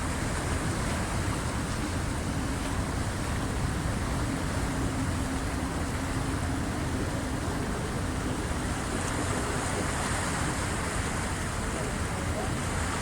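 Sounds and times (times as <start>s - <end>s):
waves washing against shore: 0.0s - 13.0s
wind rumble on microphone: 0.0s - 13.0s.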